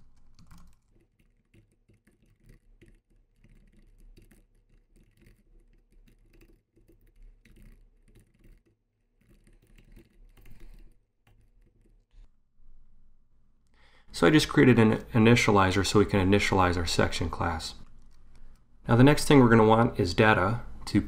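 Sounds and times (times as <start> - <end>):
faint keyboard typing: 0.0 - 12.3, 14.4 - 19.8.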